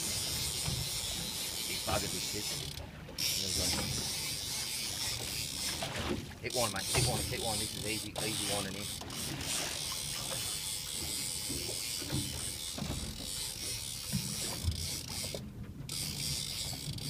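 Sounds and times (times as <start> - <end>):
sea water rushing: 0.0 - 15.2
boat engine rumble: 0.0 - 17.0.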